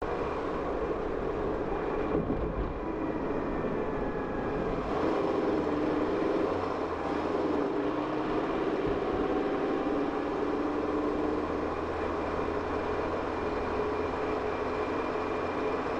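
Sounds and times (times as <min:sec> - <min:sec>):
car engine: 0:00.0 - 0:15.9.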